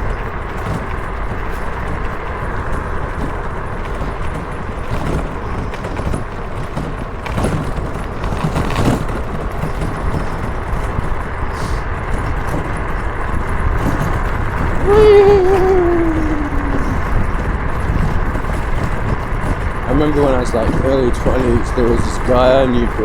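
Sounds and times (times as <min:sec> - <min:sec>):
motorcycle riding: 0:00.0 - 0:23.0.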